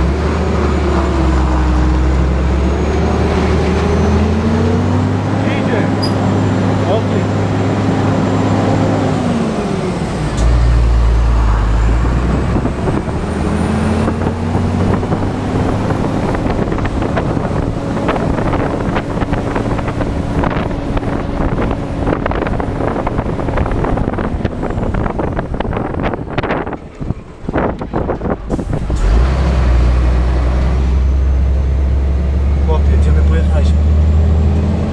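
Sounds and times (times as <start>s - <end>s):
truck diesel engine under load: 0.0s - 34.9s.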